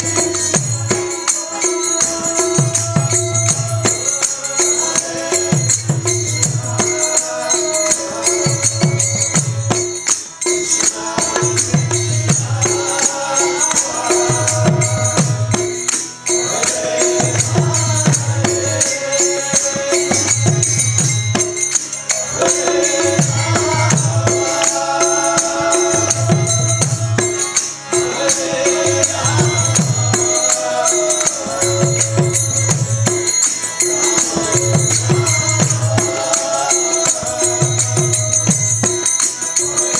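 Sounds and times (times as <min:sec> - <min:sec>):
group chanting: 0:00.0 - 0:20.7, 0:22.1 - 0:39.9
hand cymbals jingling: 0:00.0 - 0:39.9
steady held drone: 0:00.0 - 0:39.9.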